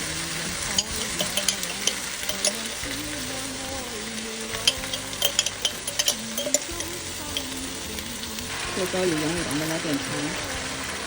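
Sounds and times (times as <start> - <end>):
garlic sizzling in oil: 0.0 - 11.0
spatula scraping pan: 0.6 - 11.0.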